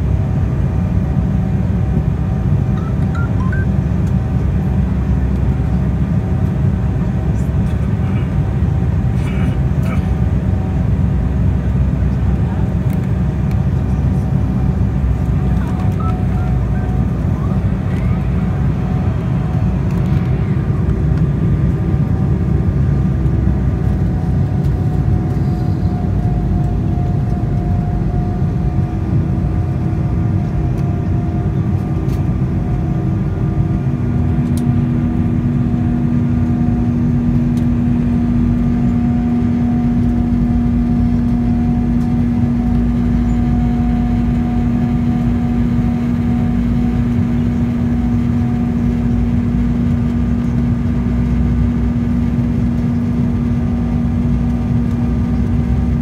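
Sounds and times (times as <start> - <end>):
airliner cabin engine rumble: 0.0 - 56.0
low steady hum: 0.0 - 56.0.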